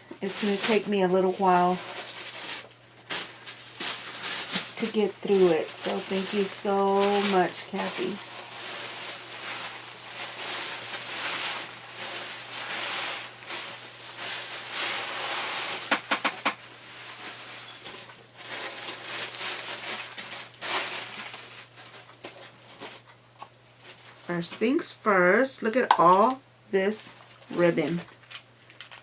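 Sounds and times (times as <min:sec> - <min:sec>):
packaging rustling and crinkling: 0:00.1 - 0:24.6, 0:27.1 - 0:29.0.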